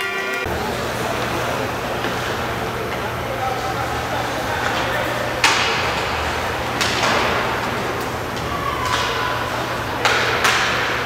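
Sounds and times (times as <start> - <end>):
hockey sticks and puck cracking: 0.4 - 11.0
steady low hum: 0.4 - 11.0.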